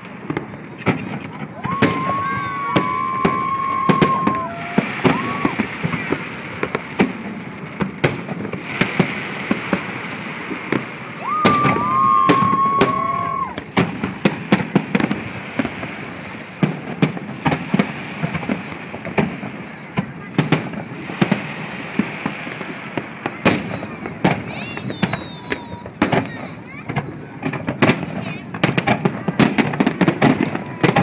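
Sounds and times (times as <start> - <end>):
fireworks bursting and crackling: 0.0 - 31.0.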